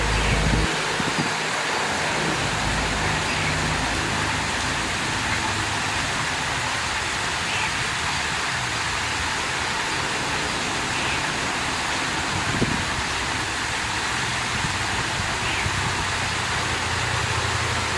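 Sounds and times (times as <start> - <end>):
water rushing: 0.0 - 17.9.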